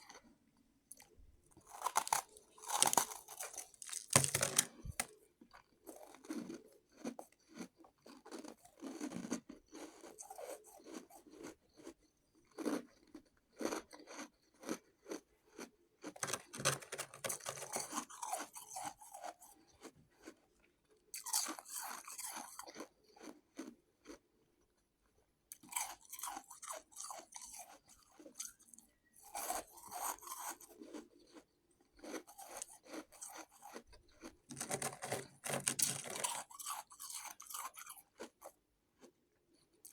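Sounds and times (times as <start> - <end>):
chewing crunchy shaved ice: 0.0 - 24.5, 25.5 - 39.9.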